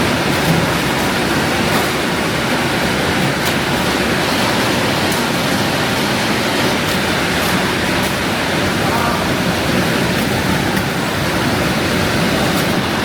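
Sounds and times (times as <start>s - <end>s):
processing machinery rushing: 0.0s - 13.0s.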